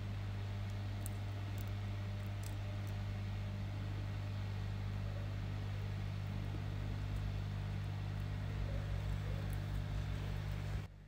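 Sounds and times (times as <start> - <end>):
hot air station blowing with hum: 0.0 - 11.0.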